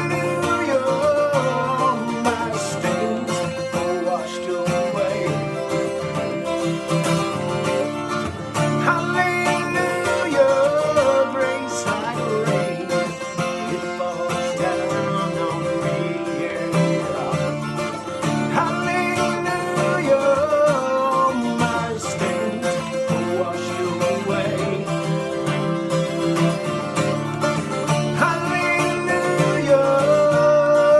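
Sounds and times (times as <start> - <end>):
gospel song on guitar: 0.0 - 30.9.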